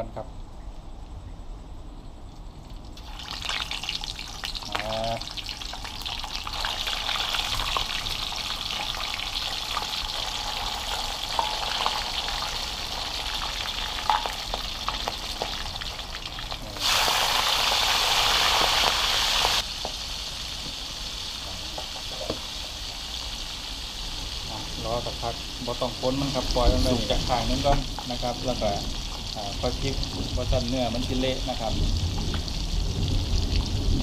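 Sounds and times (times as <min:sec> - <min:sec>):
oil popping and crackling: 0:02.6 - 0:34.0
fish sizzling in hot oil: 0:03.0 - 0:34.0.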